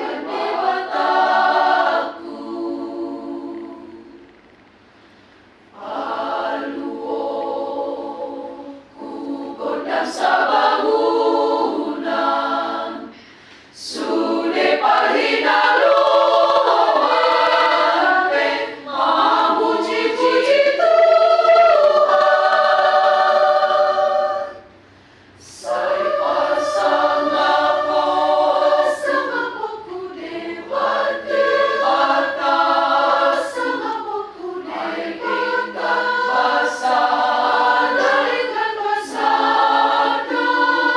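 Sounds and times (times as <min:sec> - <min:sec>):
choir singing a cappella: 0:00.0 - 0:04.4, 0:05.6 - 0:24.8, 0:25.4 - 0:40.9.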